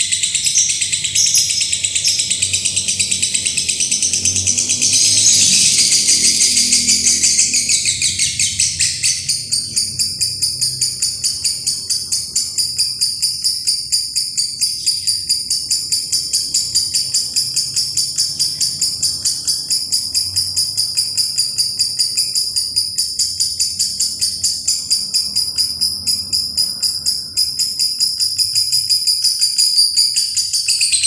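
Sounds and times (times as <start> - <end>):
lovebird chattering trill: 0.0 - 31.0.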